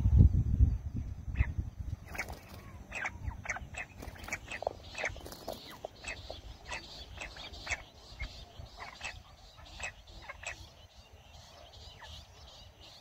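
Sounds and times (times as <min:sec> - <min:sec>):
quail high-pitched chirps: 0:01.0 - 0:13.0.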